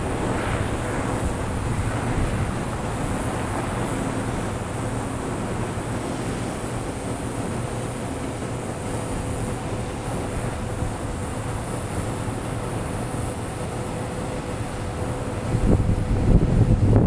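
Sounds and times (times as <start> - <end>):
faint steady hum: 0.0 - 17.0
wind buffeting microphone: 0.0 - 17.0.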